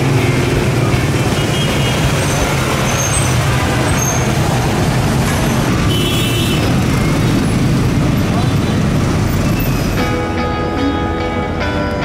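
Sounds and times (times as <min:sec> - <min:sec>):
traffic engines and road noise: 0:00.0 - 0:12.0.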